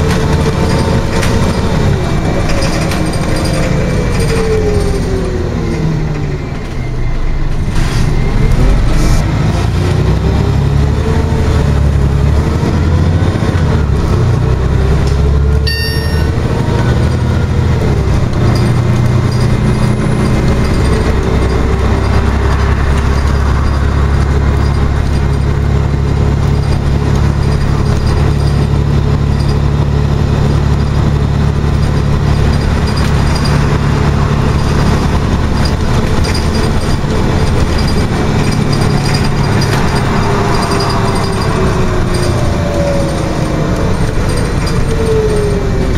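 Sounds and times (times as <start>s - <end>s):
bus engine drone: 0.0s - 45.9s
road noise: 0.0s - 45.9s.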